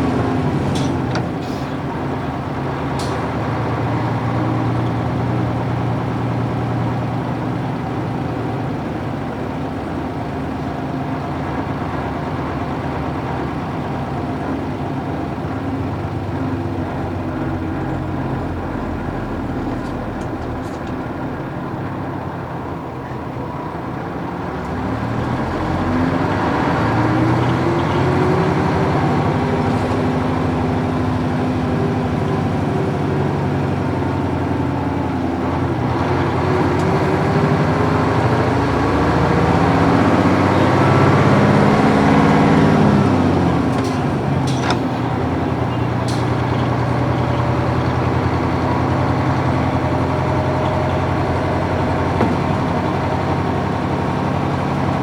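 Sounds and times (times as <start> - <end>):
bus diesel engine accelerating: 0.0 - 55.0.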